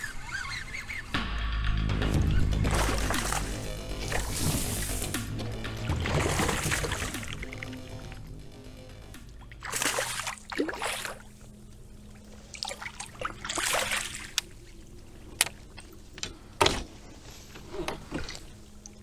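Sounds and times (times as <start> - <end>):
water splashing around a kayak: 2.2 - 8.3, 9.1 - 19.0.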